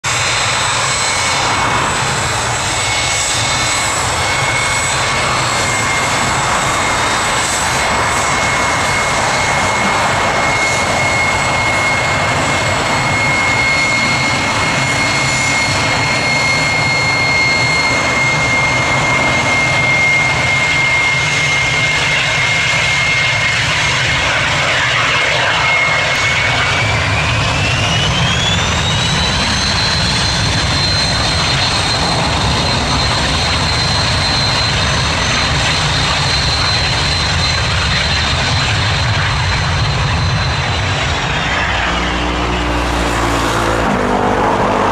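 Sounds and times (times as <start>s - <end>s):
jet engines whining: 0.0s - 44.9s.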